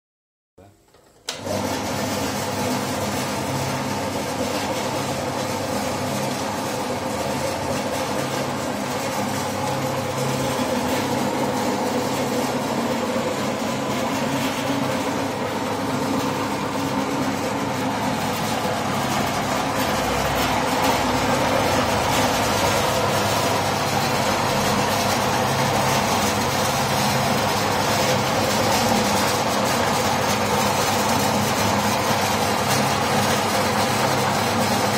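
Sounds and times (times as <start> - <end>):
slicing machine motor humming: 1.0 - 34.9.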